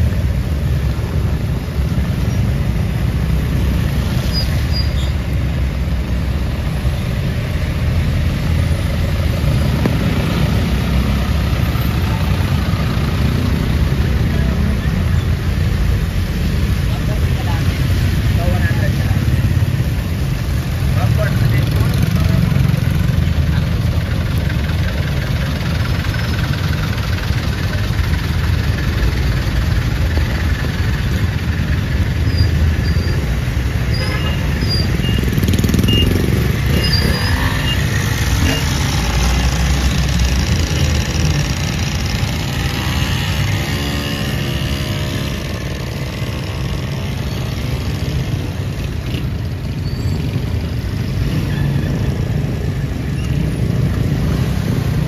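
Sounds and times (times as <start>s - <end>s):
cars and motorcycles passing: 0.0s - 55.0s.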